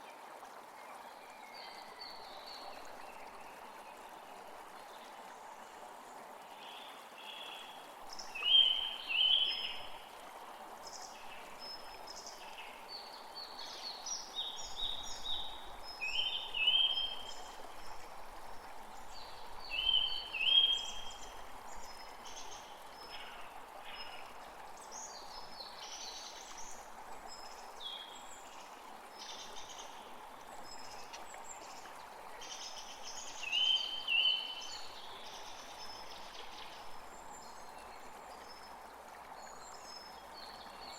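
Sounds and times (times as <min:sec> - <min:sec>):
steady background hiss: 0:00.8 - 0:40.9.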